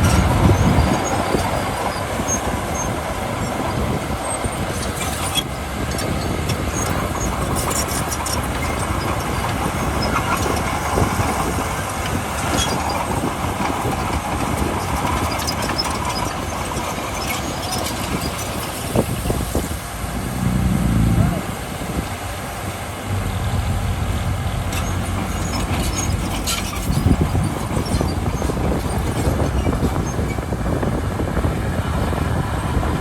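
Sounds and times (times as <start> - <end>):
heavy diesel machinery running: 0.0 - 33.0.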